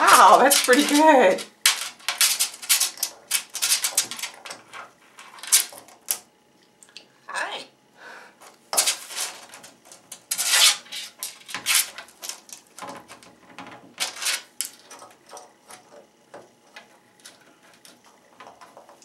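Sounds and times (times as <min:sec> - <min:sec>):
parrot claws scraping wooden door: 0:00.0 - 0:06.1, 0:08.7 - 0:19.0.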